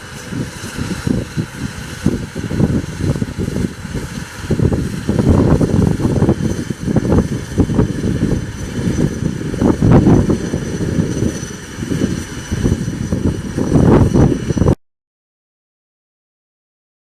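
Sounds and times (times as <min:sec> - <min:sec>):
turboprop engine whine: 0:00.0 - 0:14.8
wind buffeting microphone: 0:00.0 - 0:14.8.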